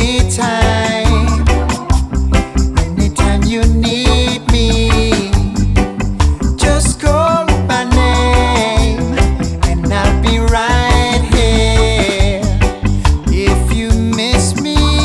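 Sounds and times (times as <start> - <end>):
reggae song with singing: 0.0 - 15.0.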